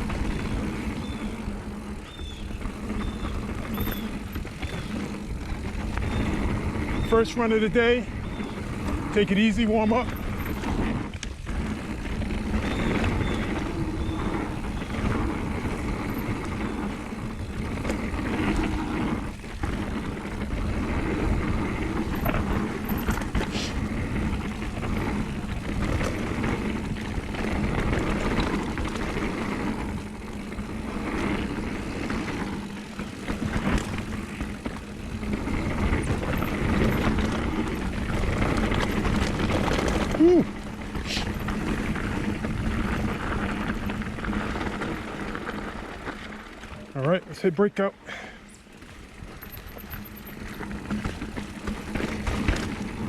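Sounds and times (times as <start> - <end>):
bike knocking and rattling: 0.0 - 53.0
bike tyres rushing on dirt: 0.0 - 53.0.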